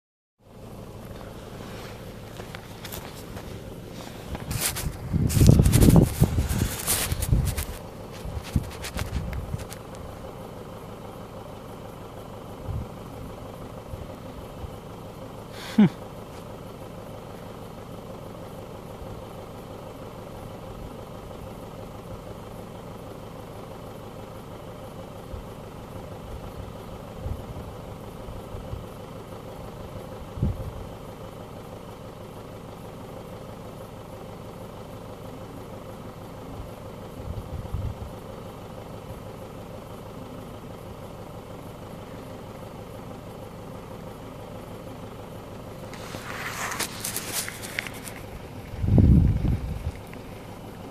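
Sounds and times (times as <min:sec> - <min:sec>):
engine idling: 0:00.4 - 0:50.9.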